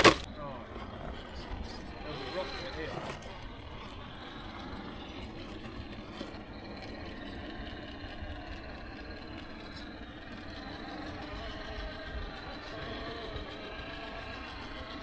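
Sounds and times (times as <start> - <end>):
electric motor and gears whirring: 0.0 - 15.0.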